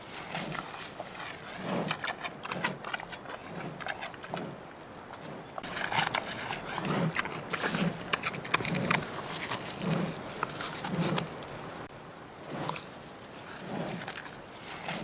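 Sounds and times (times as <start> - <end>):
low chewing sound: 0.0 - 15.0.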